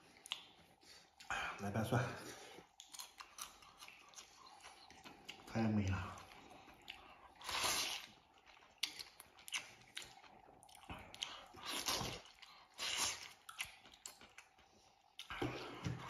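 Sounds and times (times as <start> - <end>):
person chewing: 0.0 - 1.4, 2.2 - 16.0.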